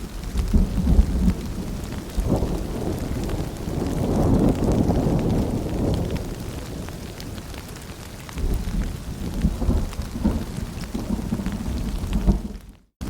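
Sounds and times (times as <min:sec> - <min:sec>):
low rumbles of thunder: 0:00.0 - 0:12.9
rain falling: 0:00.0 - 0:13.0
scattered raindrops: 0:00.0 - 0:13.0.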